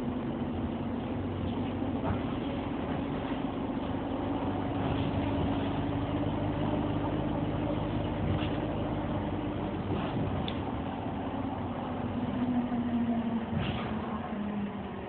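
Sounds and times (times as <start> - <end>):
bus diesel engine droning: 0.0 - 15.0
road rumble: 0.0 - 15.0.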